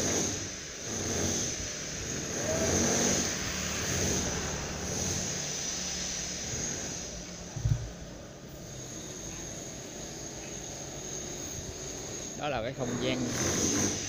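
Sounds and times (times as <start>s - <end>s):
steady high hiss: 0.0s - 14.0s
vehicles passing by: 1.5s - 13.4s.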